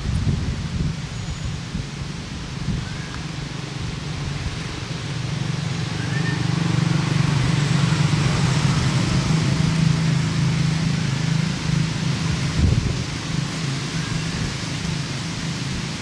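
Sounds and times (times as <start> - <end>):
even hiss: 0.0 - 16.0
vehicle engine hum: 0.0 - 16.0.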